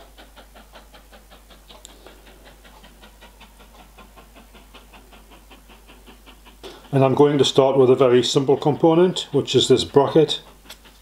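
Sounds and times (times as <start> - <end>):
faint rapid ticking: 0.0 - 11.0.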